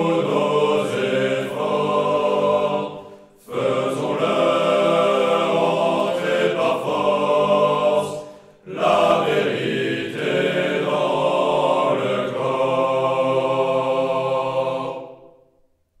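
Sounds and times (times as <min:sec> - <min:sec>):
choir singing long held notes: 0:00.0 - 0:15.7.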